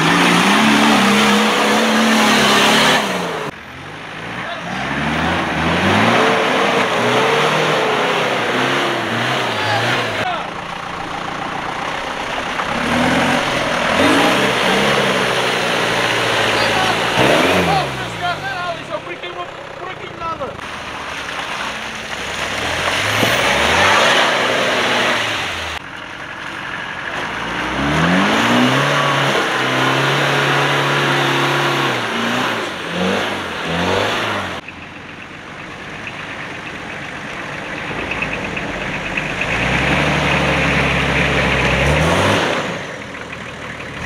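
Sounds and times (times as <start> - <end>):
off-road engines revving in mud: 0.0 - 44.0.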